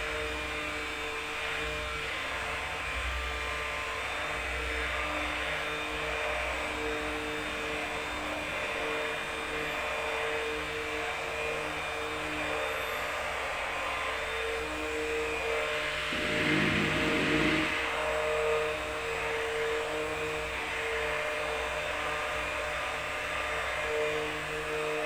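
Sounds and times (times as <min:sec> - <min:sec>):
hand blender motor whine: 0:03.6 - 0:25.0.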